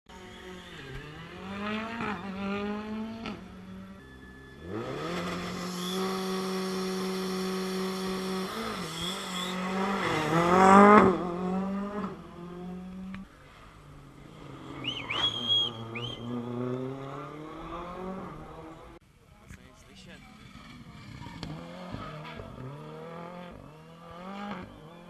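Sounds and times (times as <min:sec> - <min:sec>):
rally car engine revving: 0:00.1 - 0:13.3, 0:14.0 - 0:19.0, 0:20.2 - 0:25.0.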